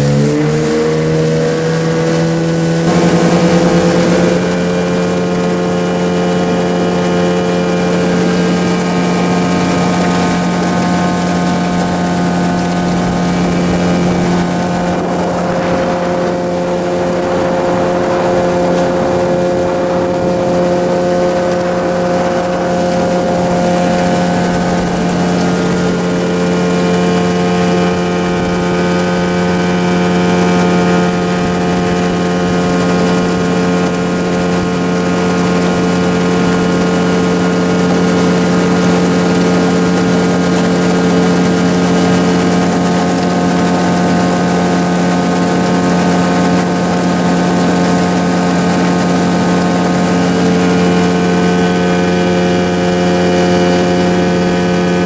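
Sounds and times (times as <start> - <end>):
motorboat engine droning: 0.0 - 55.0.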